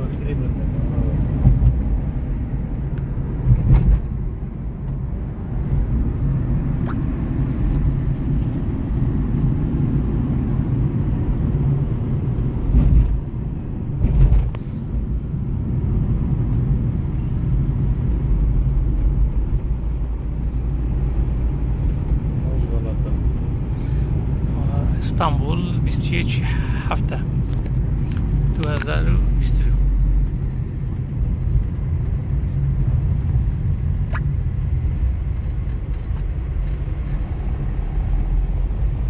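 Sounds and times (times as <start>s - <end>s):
road and engine rumble in car: 0.0s - 39.0s.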